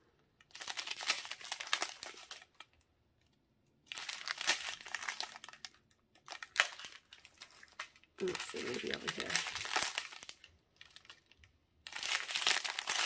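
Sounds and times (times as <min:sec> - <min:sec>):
plastic bags crinkling: 0:00.4 - 0:02.8, 0:03.9 - 0:13.0.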